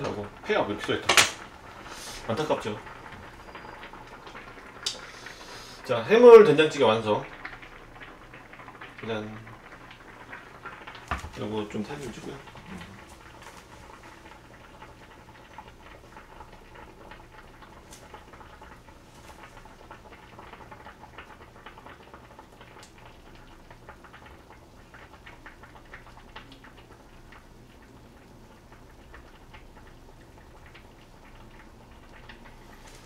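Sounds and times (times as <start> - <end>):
stew bubbling with small pops: 0.0 - 33.0.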